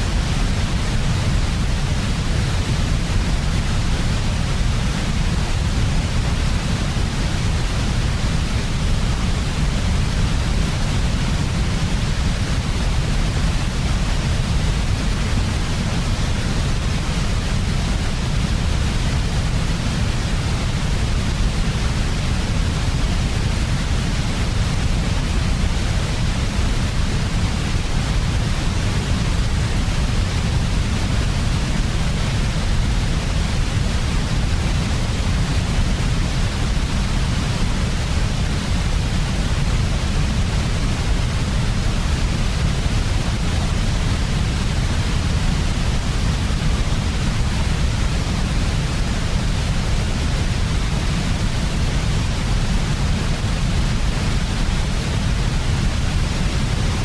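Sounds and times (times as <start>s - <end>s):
white noise with low rumble: 0.0s - 57.0s.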